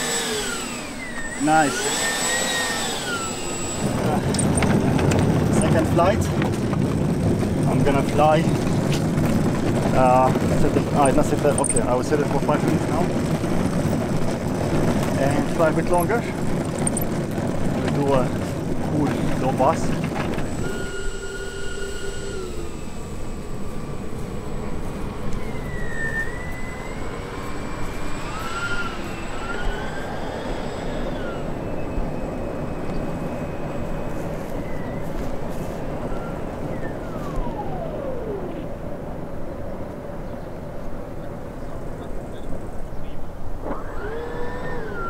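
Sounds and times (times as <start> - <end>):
electric ducted-fan engines whining: 0.0 - 45.0
rush of air and rolling: 2.6 - 43.6.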